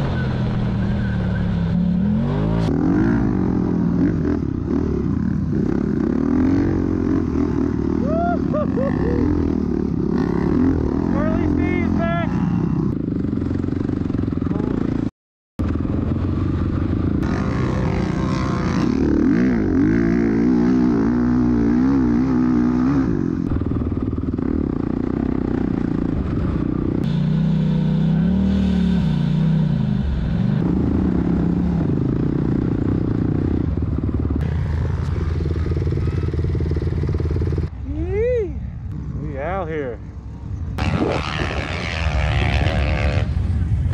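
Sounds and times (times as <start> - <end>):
dirt bike engine revving: 0.0 - 15.1, 15.7 - 37.8, 38.9 - 43.9.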